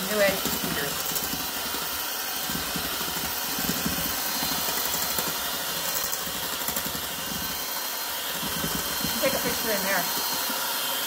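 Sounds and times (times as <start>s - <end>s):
electric hand mixer beating cream: 0.0s - 11.0s.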